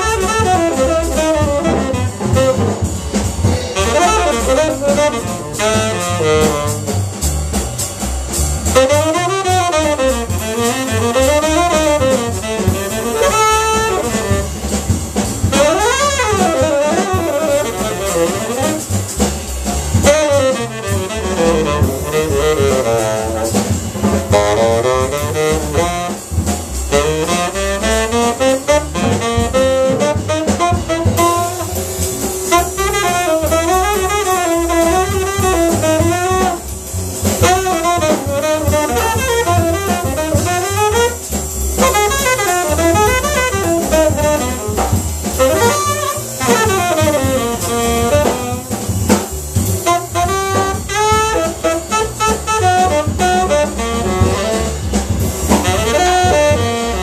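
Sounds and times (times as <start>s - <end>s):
tenor saxophone melody: 0.0s - 2.9s, 3.7s - 7.0s, 8.8s - 19.1s, 20.0s - 57.0s
drum kit with cymbals: 0.0s - 57.0s
plucked double bass: 0.0s - 57.0s.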